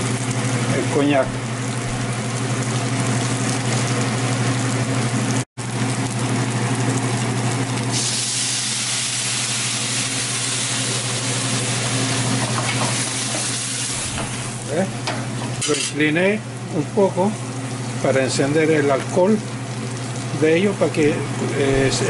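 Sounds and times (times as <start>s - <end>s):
food sizzling in a pan: 0.0s - 18.1s.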